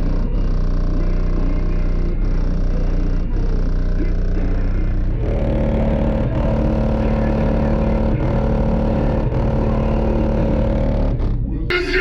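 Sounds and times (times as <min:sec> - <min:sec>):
loud music with heavy bass: 0:00.0 - 0:10.8.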